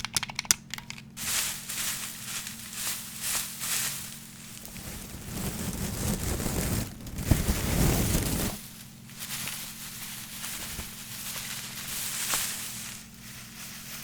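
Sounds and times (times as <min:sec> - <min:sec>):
scratching and brushing on hard object: 0:01.2 - 0:14.0.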